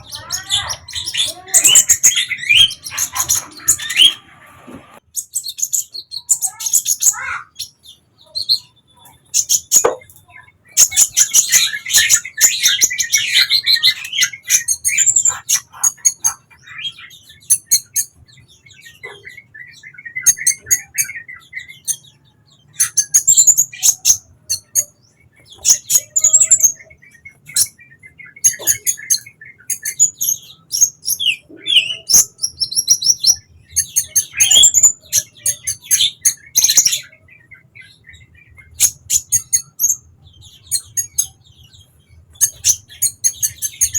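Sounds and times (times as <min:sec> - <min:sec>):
bird twittering chirps and trills: 0:00.0 - 0:43.9.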